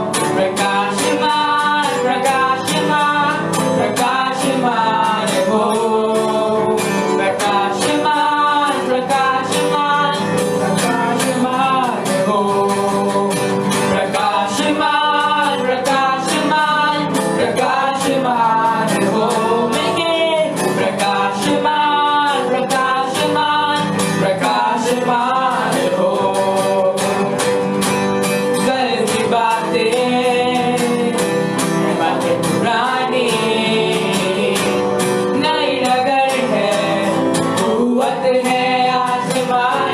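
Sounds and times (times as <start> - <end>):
live band with guitar and singing: 0.0 - 39.9.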